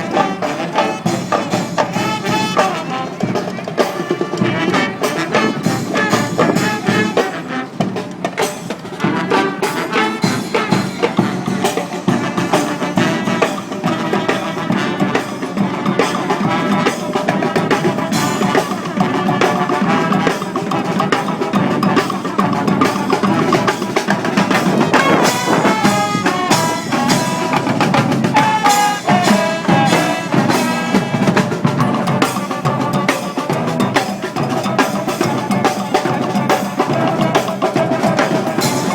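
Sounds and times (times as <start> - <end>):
brass band playing: 0.0 - 38.9
drums beating: 0.0 - 38.9.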